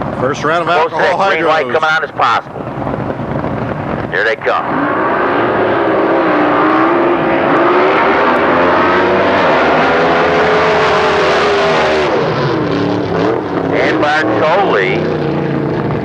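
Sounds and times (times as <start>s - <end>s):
boat engine at full throttle: 0.0s - 16.0s.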